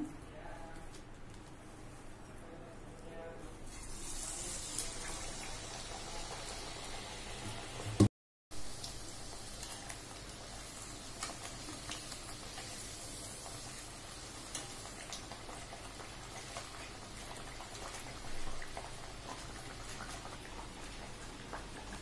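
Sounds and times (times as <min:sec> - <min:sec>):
food deep-frying in oil: 0:03.5 - 0:22.0.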